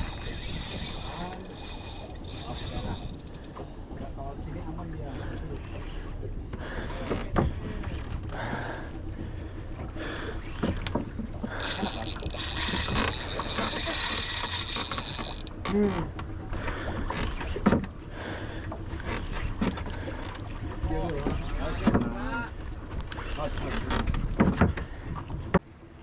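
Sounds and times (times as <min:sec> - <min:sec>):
boat engine rumbling: 0:00.0 - 0:25.1.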